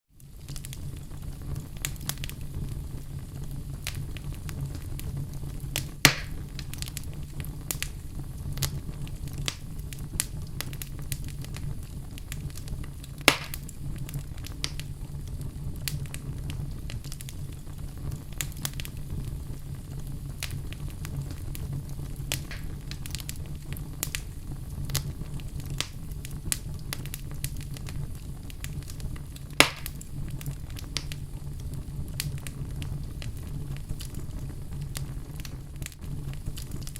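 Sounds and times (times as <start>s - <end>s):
fire crackling: 0.1s - 36.9s
loud pops of fire: 0.2s - 36.9s.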